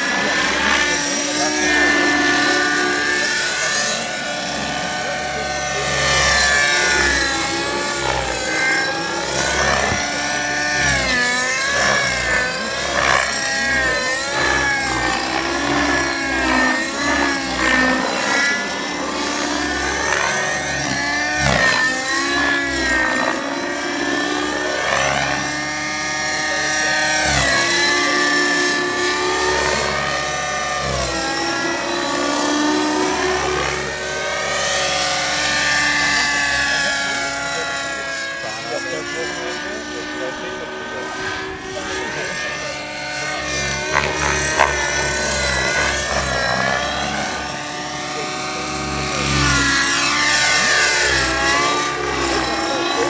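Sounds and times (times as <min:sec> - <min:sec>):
model helicopter rotor whine: 0:00.0 - 0:53.0.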